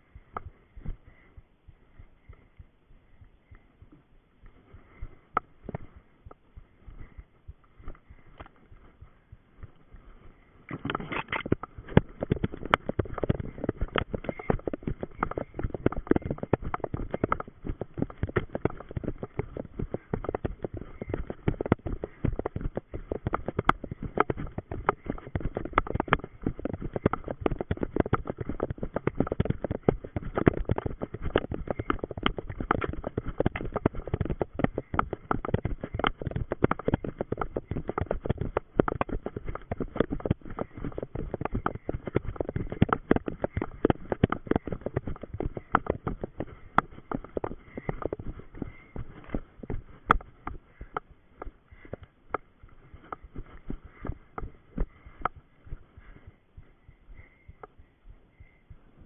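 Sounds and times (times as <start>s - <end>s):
running footsteps on forest floor: 0.0s - 59.0s.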